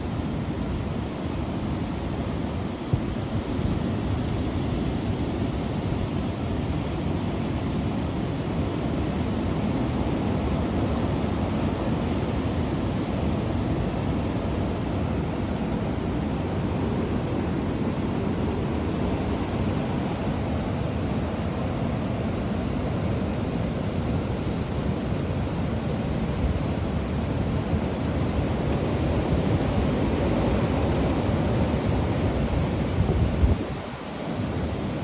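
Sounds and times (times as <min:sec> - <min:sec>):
strong wind blowing: 0:00.0 - 0:35.0.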